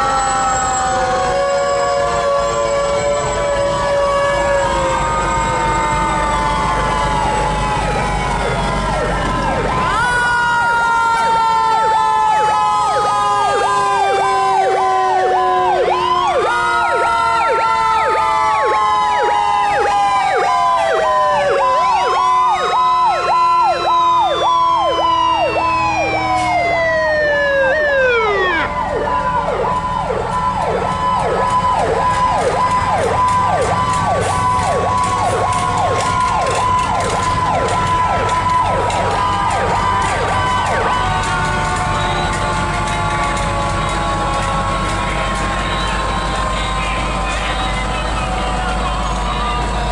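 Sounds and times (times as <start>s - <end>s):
fast warbling siren: 0.0s - 49.9s
wailing fire truck sirens: 0.0s - 49.9s.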